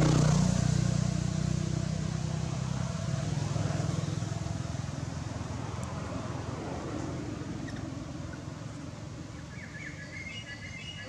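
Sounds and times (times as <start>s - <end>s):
distant vehicle engine hum: 0.0s - 11.0s
outdoor background noise: 0.0s - 11.0s.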